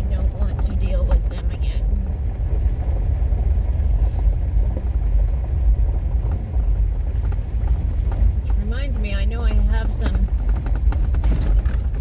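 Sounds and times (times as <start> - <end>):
tyre and engine rumble: 0.0 - 12.0.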